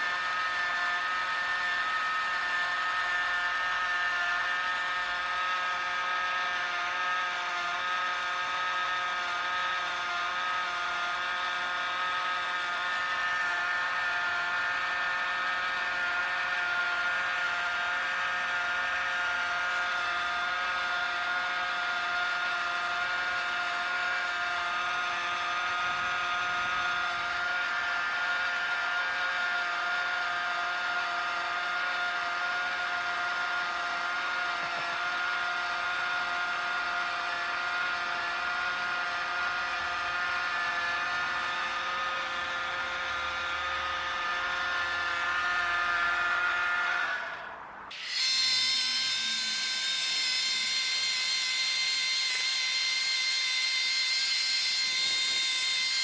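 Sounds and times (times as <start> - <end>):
small electric motor whining: 0.0 - 56.0.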